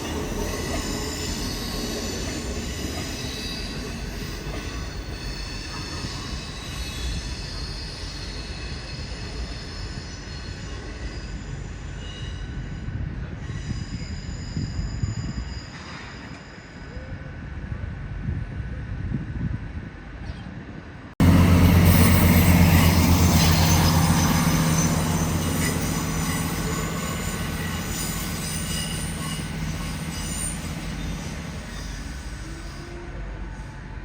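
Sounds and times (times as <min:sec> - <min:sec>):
train wheels squealing: 0:00.0 - 0:17.6, 0:21.5 - 0:34.0
train rumble: 0:00.0 - 0:34.0.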